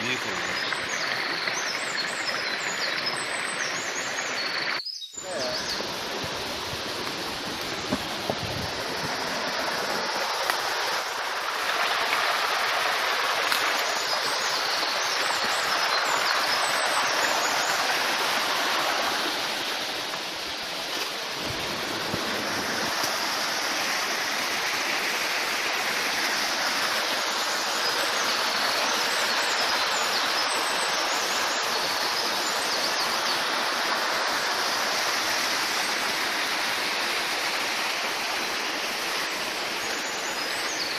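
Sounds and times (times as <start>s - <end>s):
creek running over rocks: 0.0s - 40.9s.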